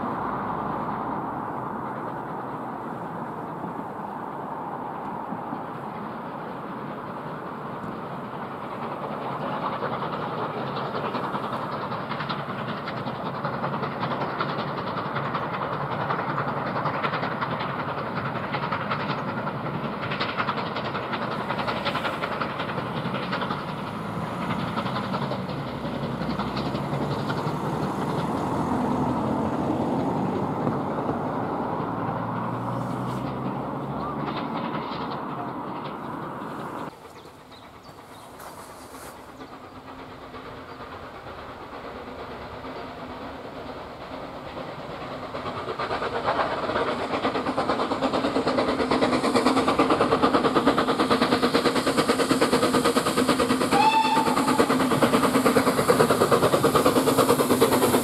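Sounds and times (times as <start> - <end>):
steam locomotive exhaust: 0.0 - 58.0
train wheels on rails: 0.0 - 58.0.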